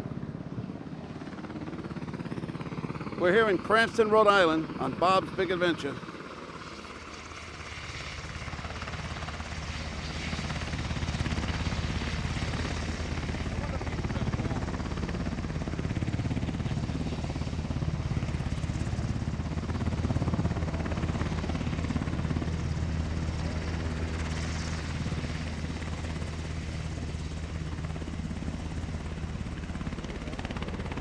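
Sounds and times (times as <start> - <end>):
helicopter engine hum: 0.0 - 31.0
helicopter rotor beating: 0.0 - 31.0.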